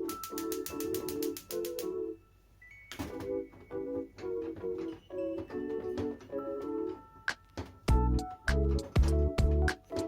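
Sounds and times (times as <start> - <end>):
light keyboard chords: 0.0 - 10.0.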